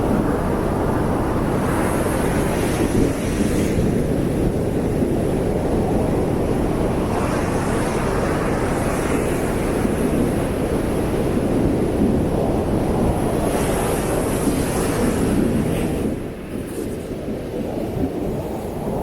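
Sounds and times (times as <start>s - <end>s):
ocean surf roaring: 0.0s - 19.0s.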